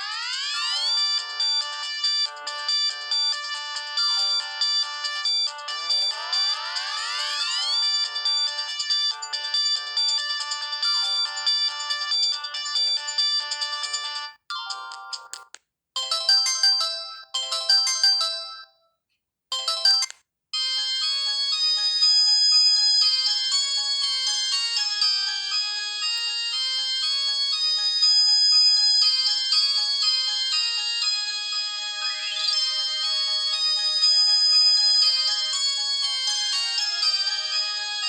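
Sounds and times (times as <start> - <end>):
mobile phone ringtone melodies: 0.0 - 38.0.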